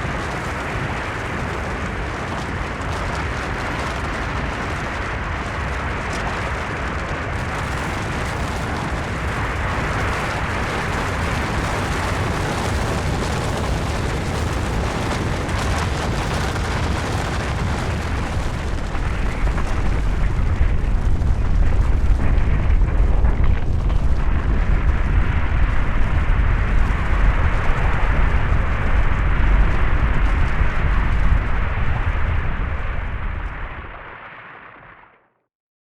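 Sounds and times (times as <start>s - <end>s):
avalanche rushing and rumbling: 0.0s - 34.8s.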